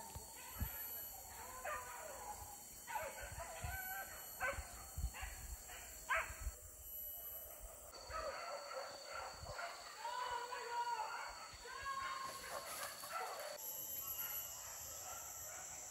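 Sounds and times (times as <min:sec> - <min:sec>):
dogs barking: 0:00.3 - 0:06.5, 0:07.8 - 0:10.4, 0:11.2 - 0:15.9.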